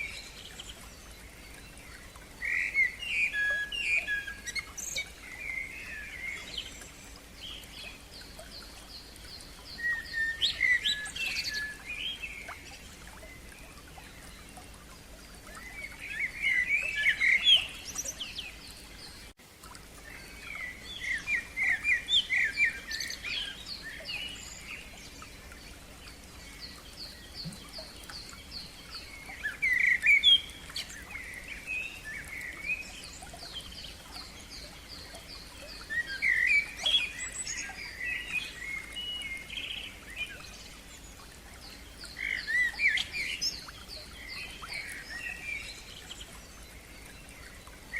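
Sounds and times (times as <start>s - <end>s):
faint background hiss: 0.0s - 47.9s
songbirds singing: 0.0s - 47.9s.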